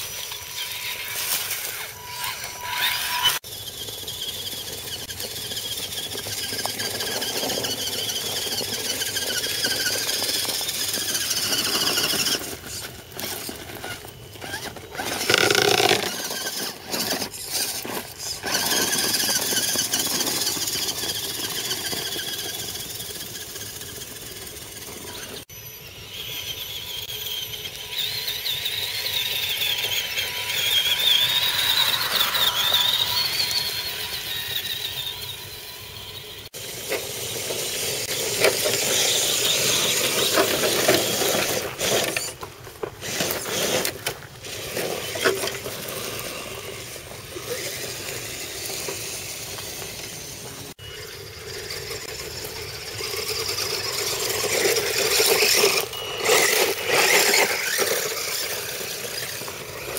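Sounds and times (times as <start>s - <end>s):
electric toy motors whining: 0.0s - 59.9s.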